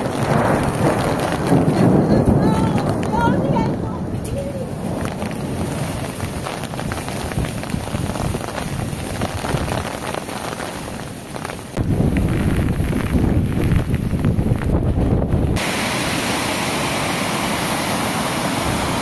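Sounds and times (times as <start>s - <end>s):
floodwater rushing: 0.0s - 19.0s
rain falling: 0.0s - 19.0s.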